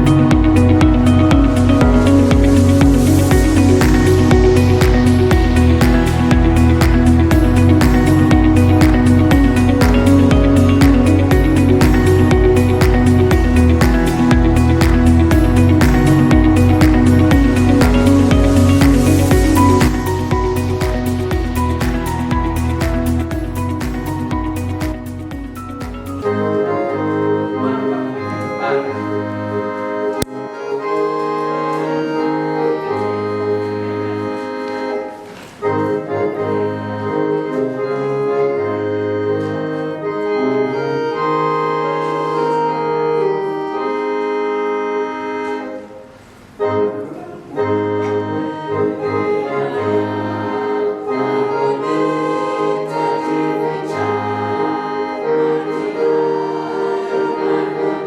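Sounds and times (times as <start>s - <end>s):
organ-style keyboard chords: 0.0s - 58.0s.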